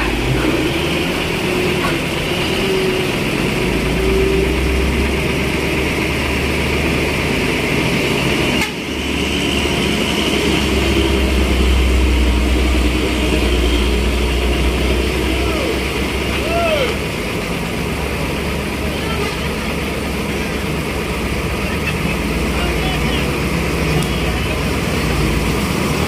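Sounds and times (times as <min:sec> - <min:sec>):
heavy diesel truck engine under load: 0:00.0 - 0:26.0.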